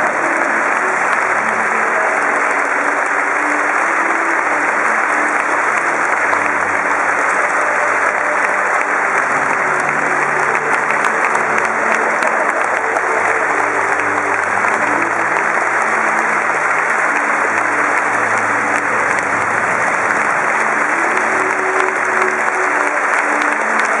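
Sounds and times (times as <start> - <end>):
audience applauding: 0.0 - 24.0
slow low music: 0.0 - 24.0.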